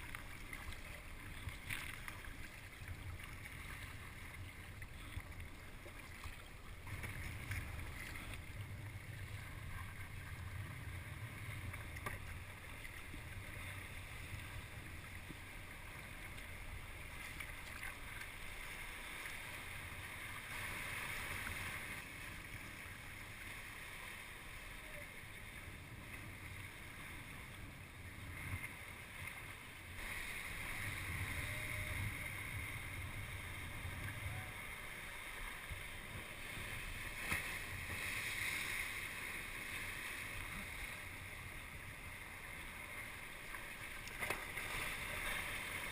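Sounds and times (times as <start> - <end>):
water splashing around kayak: 0.0 - 45.9.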